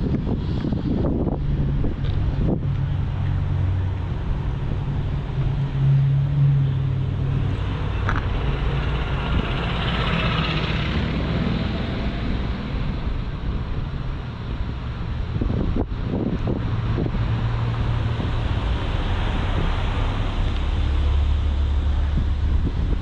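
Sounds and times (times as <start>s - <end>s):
car engine running at low revs: 0.0s - 23.0s.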